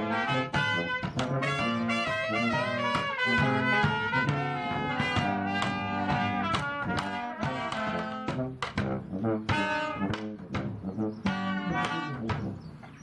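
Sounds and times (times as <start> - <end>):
brass band playing: 0.0 - 12.9.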